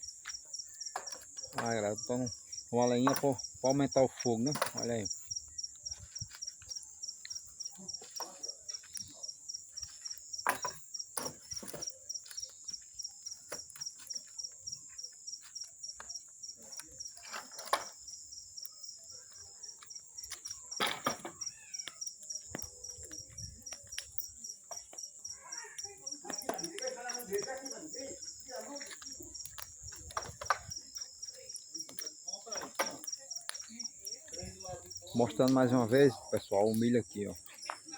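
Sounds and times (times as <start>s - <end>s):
bonfire crackling: 0.0s - 37.9s
crickets chirping: 0.0s - 37.9s.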